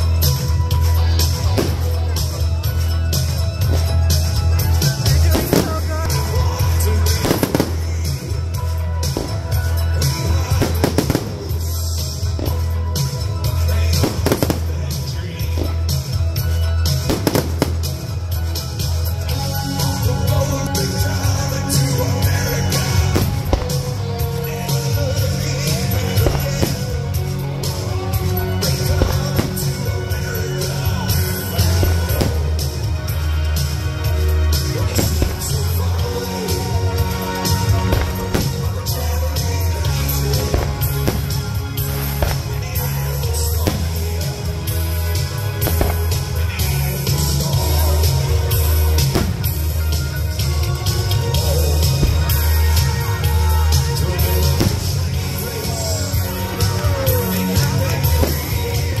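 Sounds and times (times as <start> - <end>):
fireworks cracking and crackling: 0.0 - 59.0
loud music with bass: 0.0 - 59.0.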